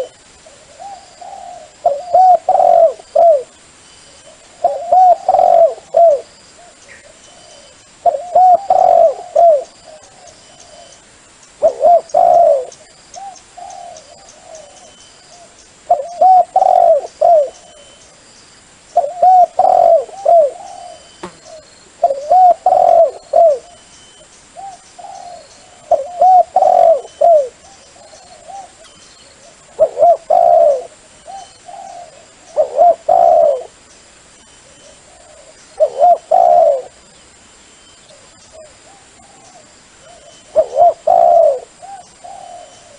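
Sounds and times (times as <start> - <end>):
dove cooing: 0.0 - 3.6, 4.3 - 11.0, 11.6 - 18.0, 19.0 - 23.9, 24.6 - 33.8, 34.6 - 37.0, 38.1 - 42.9.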